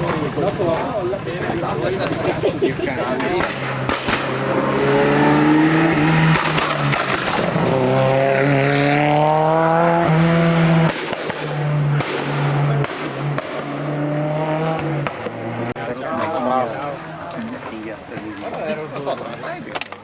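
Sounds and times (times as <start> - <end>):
rally car engine at high revs: 0.0 - 18.8.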